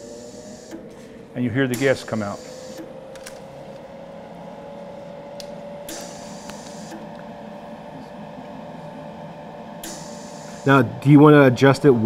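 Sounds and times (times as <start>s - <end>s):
welder humming: 0.0s - 12.0s.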